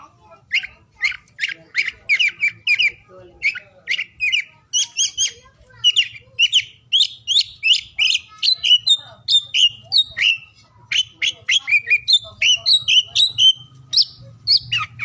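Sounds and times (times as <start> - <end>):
bird singing whistled notes: 0.5 - 15.0.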